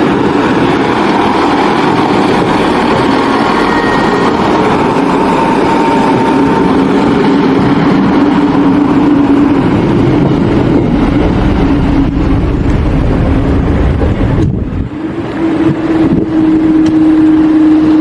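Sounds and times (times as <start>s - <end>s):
train engine drone: 0.0s - 18.0s
train running noise: 0.0s - 18.0s.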